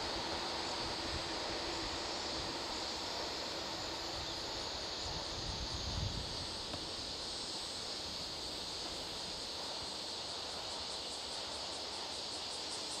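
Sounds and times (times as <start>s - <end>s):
insects trilling: 0.0s - 13.0s
pulsed insect chirping: 0.0s - 13.0s.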